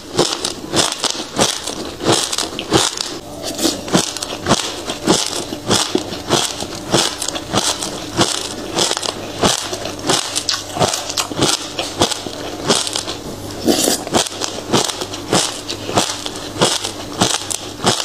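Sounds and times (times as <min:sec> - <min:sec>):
seeds crunched between teeth: 0:00.0 - 0:18.0.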